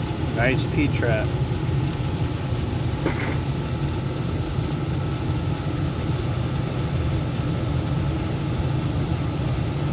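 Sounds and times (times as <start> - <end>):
furnace running: 0.0 - 9.9.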